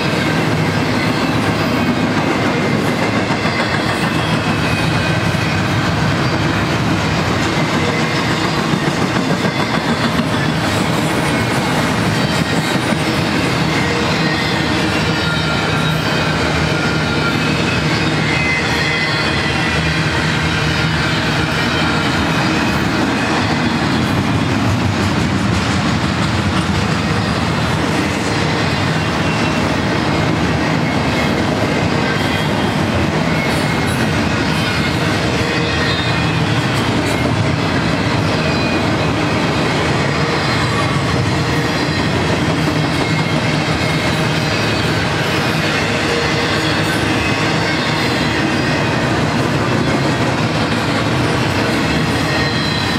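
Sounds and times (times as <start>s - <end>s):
high-pitched wheel squeal: 0.0s - 24.5s, 26.8s - 52.9s
train wheels rumbling on rail: 0.0s - 52.9s.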